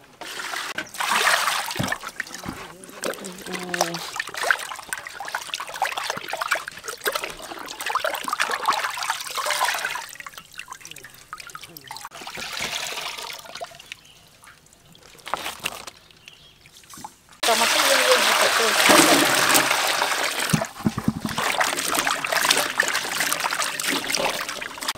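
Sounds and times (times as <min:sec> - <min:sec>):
water splashing in steel basin: 0:00.3 - 0:15.0, 0:16.0 - 0:24.9
water dripping: 0:00.8 - 0:24.9.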